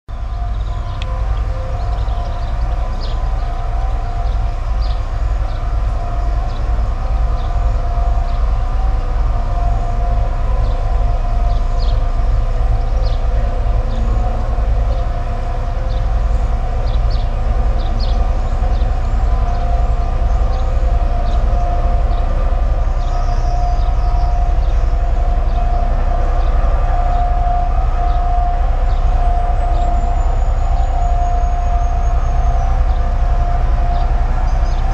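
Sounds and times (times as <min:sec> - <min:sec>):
industrial machinery drone: 0:00.1 - 0:34.9.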